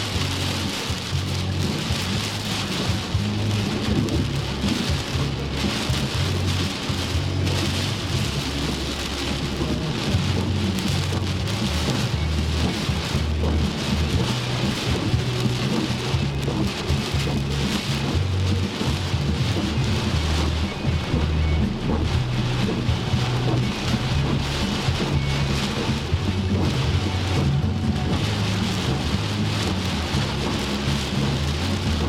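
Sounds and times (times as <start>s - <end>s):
deep uneven rumble: 0.0s - 32.0s
heavy rain falling: 0.0s - 32.0s.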